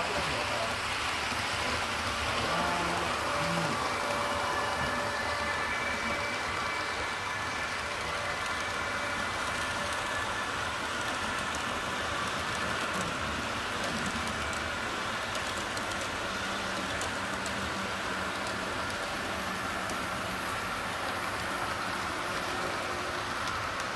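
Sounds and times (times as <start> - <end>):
model train wheels whirring: 0.0 - 23.9.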